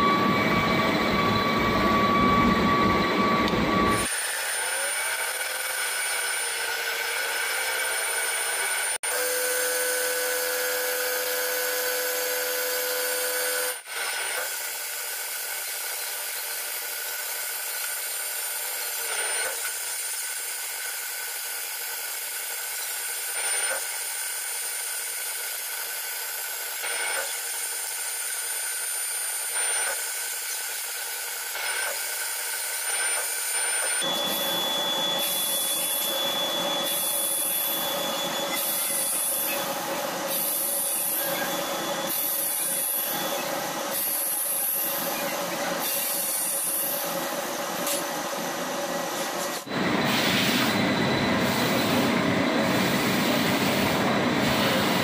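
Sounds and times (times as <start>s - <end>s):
lathe cutting metal whine: 0.0s - 55.0s.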